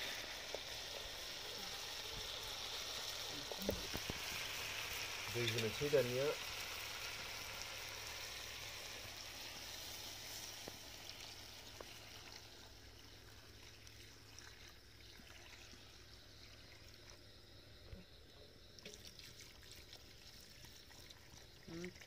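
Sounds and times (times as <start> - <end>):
water pouring hiss: 0.0 - 22.0.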